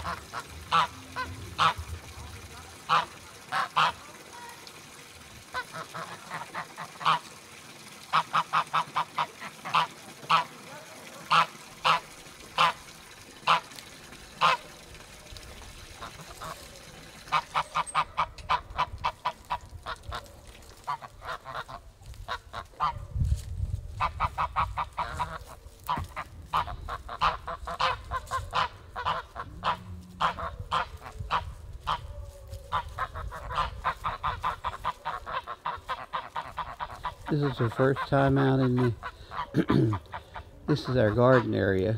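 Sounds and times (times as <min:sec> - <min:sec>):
geese honking: 0:00.0 - 0:04.5, 0:05.5 - 0:14.8, 0:15.9 - 0:20.2, 0:20.8 - 0:23.0, 0:24.0 - 0:32.1, 0:32.7 - 0:41.9.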